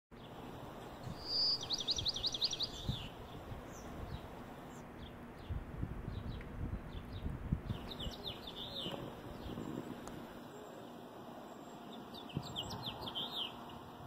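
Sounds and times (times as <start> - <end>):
songbird singing: 0.1 - 14.0.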